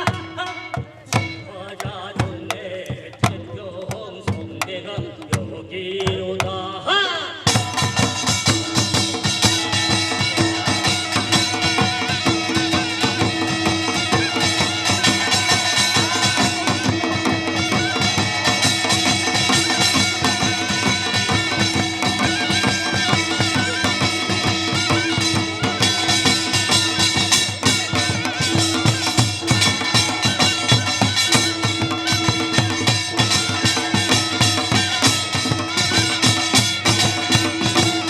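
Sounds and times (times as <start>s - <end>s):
drums and percussion rhythm: 0.0s - 38.0s
wind instrument melody: 7.5s - 38.0s.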